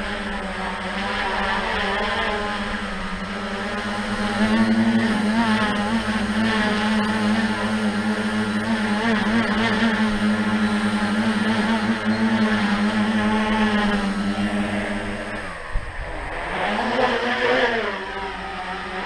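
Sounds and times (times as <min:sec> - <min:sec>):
drone motors buzzing whine: 0:00.0 - 0:19.0.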